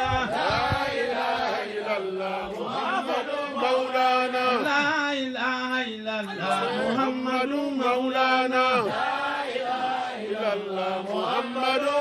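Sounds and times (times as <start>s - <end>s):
men chanting through pa: 0.0s - 12.0s.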